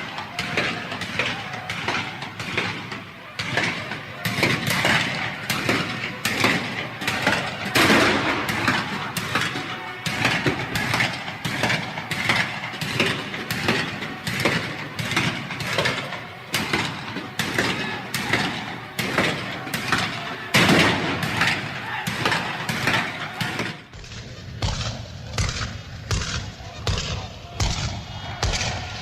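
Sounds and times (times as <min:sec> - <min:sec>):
combat noise: 0:00.0 - 0:29.0
gunshots: 0:00.0 - 0:29.0.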